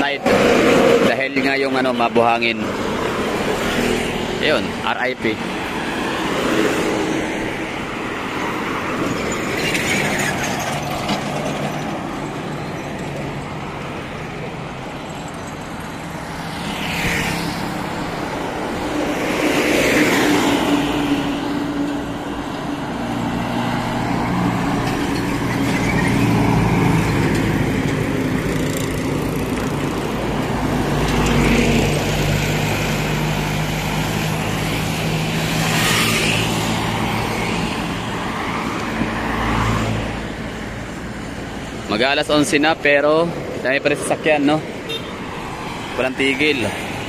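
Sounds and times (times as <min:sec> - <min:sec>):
vehicles driving past: 0:00.0 - 0:47.0.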